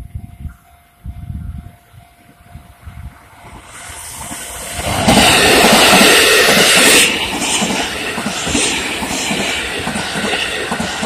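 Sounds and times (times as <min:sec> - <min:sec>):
train rushing past: 0:01.9 - 0:11.0.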